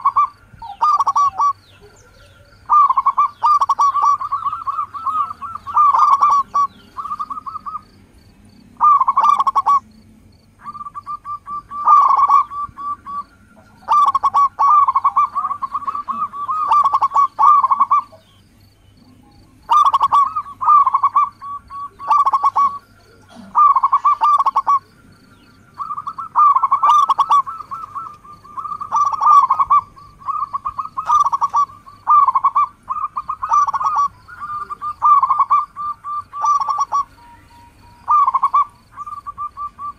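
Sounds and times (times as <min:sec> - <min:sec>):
dove cooing: 0:00.0 - 0:08.0, 0:08.6 - 0:39.9.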